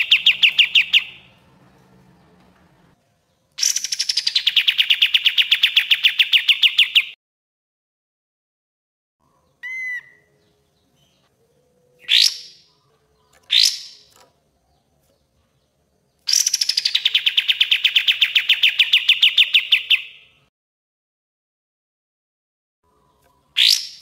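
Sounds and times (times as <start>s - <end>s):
bulbul singing: 0.0s - 7.2s, 9.2s - 20.5s, 22.9s - 24.0s.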